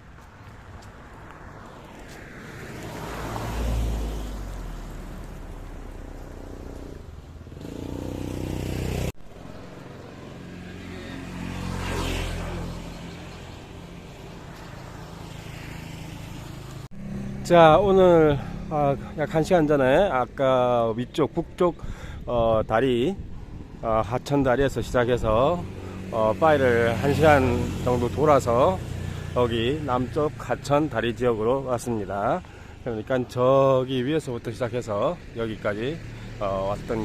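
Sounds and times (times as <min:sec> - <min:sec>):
steady engine hum: 0:00.0 - 0:22.3, 0:23.2 - 0:33.0
vehicles passing on road: 0:00.0 - 0:37.0.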